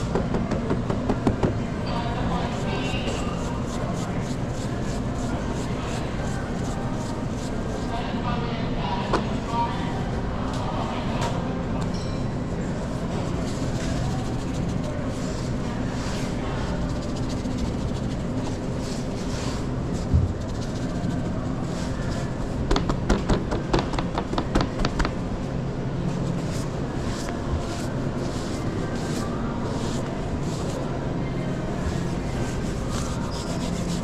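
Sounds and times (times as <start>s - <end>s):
kitchen machinery hum: 0.0s - 34.0s.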